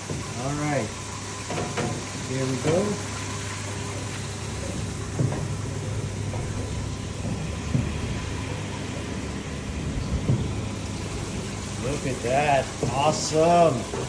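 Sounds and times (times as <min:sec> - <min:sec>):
machine motor hum: 0:00.0 - 0:14.0
water noise: 0:00.0 - 0:14.0.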